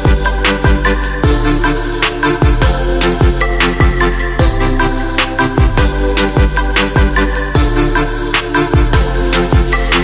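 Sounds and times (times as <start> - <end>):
electronic beat with kick drum: 0.0 - 10.0.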